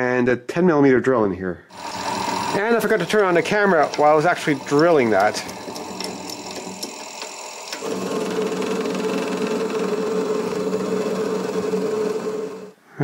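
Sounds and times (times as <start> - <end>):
tool cutting metal: 1.7 - 12.7
lathe motor humming: 1.7 - 12.8.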